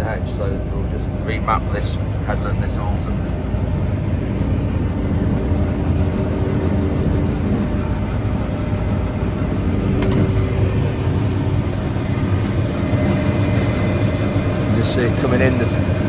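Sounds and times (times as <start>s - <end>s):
combine harvester running: 0.0s - 16.0s.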